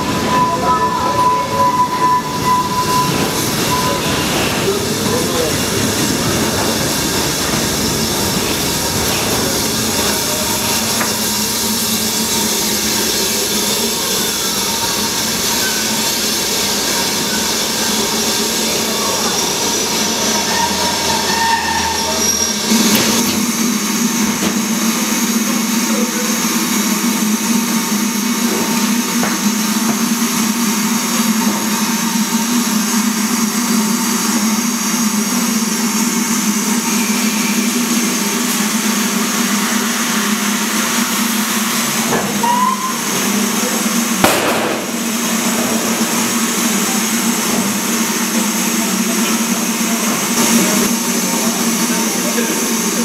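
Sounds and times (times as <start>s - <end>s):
steam hissing: 1.6s - 53.0s.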